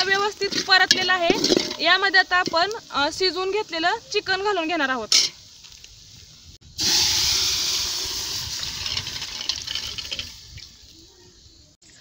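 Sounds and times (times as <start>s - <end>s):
loud sizzle of frying: 0.0s - 11.2s.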